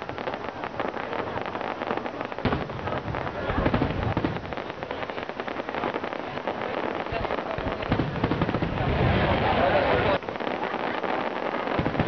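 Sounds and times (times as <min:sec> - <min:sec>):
deep firework booms: 0:00.0 - 0:12.0
fireworks crackling: 0:00.0 - 0:12.0
firework bang: 0:01.2 - 0:05.8, 0:06.6 - 0:12.0.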